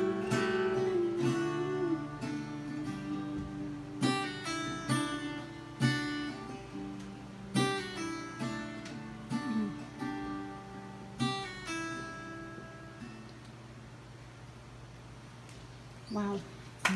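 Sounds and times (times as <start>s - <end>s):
acoustic guitar strumming: 0.0s - 14.2s.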